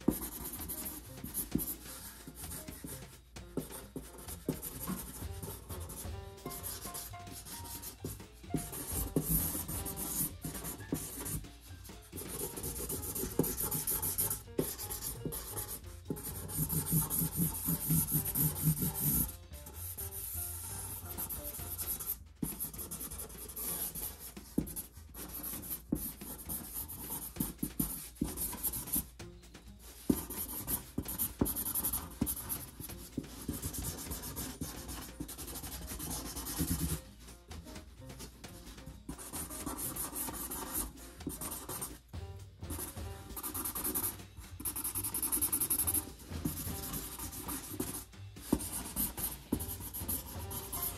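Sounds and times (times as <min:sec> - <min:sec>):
marker scribbling on cardboard: 0:00.0 - 0:50.9.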